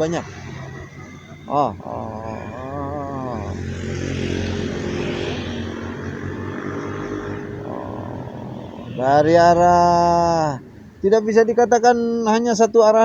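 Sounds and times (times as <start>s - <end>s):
motorcycle passing: 0.0s - 13.0s.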